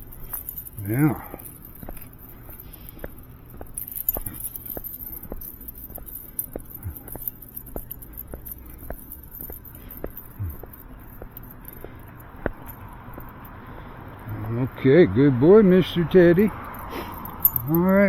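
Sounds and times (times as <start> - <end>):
dog tags jingling: 0.0 - 18.0.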